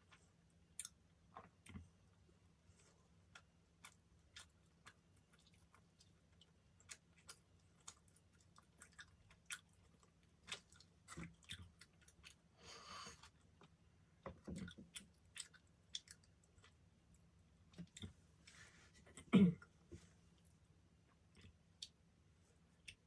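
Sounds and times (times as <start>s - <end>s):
chewing soft food: 0.0s - 19.7s.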